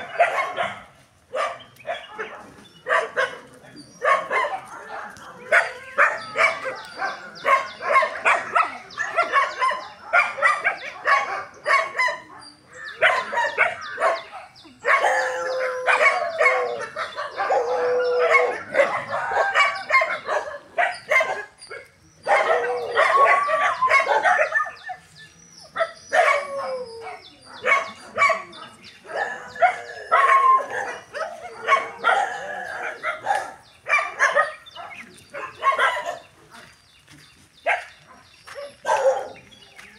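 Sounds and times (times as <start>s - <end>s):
dogs barking and yelping: 0.0s - 36.8s, 37.6s - 39.8s
dogs howling: 4.0s - 36.2s.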